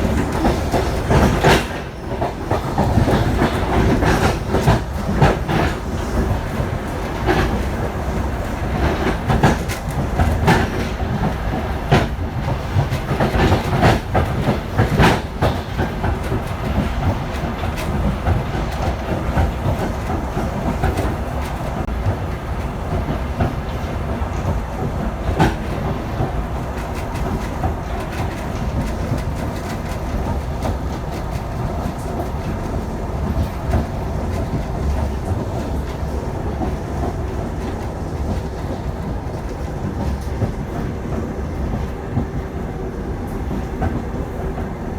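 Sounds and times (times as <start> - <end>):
train rumble: 0.0 - 44.9
train wheels clicking on rail joints: 0.0 - 44.9.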